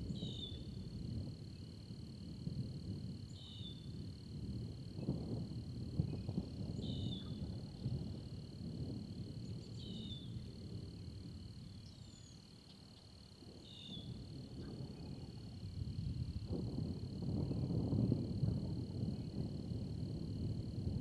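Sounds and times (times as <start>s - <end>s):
high insect trill: 0.0s - 21.0s.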